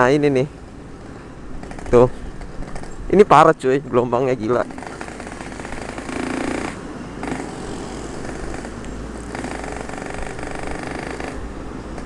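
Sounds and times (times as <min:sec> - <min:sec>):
two-stroke motorcycle engine: 0:01.0 - 0:03.1, 0:04.4 - 0:12.0.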